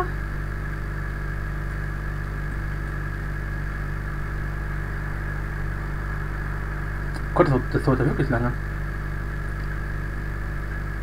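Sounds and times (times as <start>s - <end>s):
high steady whine: 0.0s - 11.0s
low hum: 0.0s - 11.0s.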